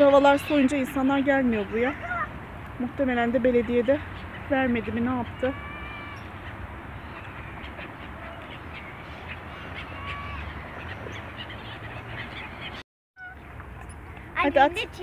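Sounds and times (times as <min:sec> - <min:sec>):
waterbirds calling: 0:00.0 - 0:15.0.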